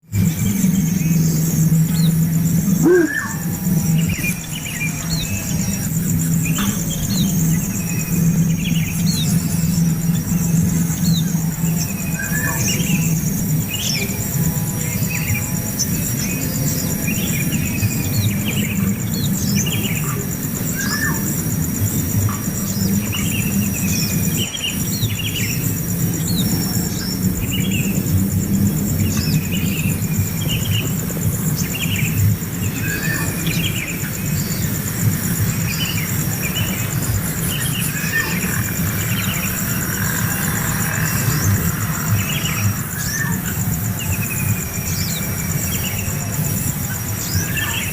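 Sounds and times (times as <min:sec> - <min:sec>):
birds chirping: 0:00.0 - 0:47.9
high-pitched whine: 0:00.0 - 0:47.9
loud low rumble: 0:00.1 - 0:45.7.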